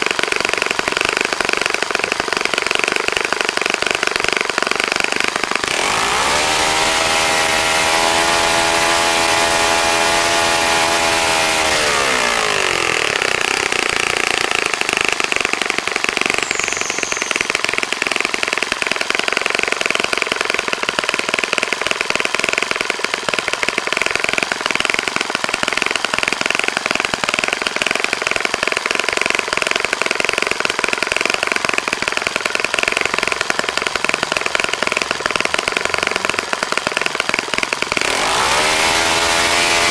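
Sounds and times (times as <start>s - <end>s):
model engine revving: 0.0s - 39.9s.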